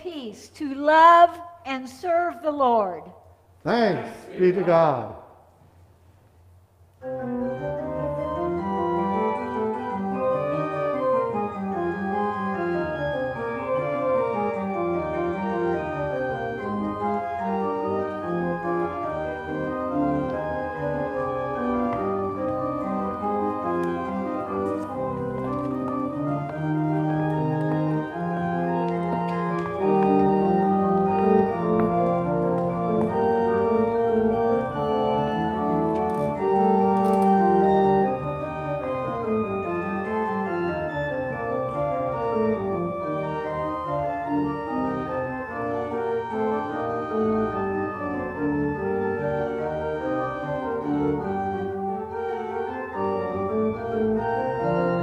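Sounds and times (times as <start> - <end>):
organ playing: 7.0 - 55.0.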